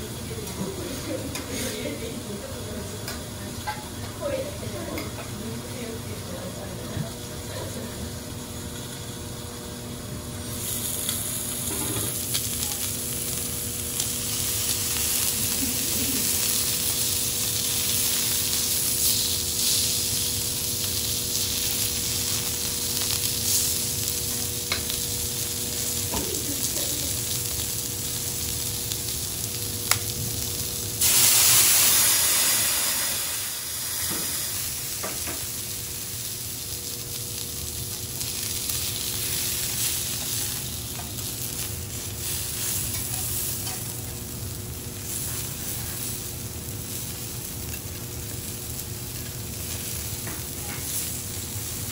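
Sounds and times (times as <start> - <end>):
steak sizzling on a griddle: 8.8 - 9.5, 10.4 - 51.9.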